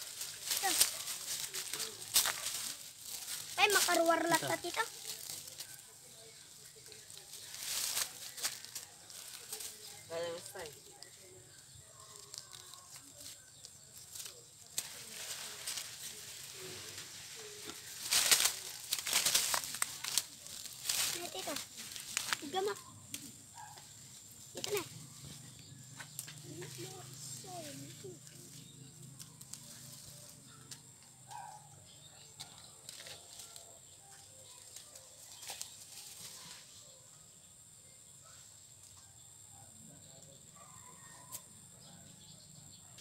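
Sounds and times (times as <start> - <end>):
dry leaves and brush crackling: 0.0 - 39.3.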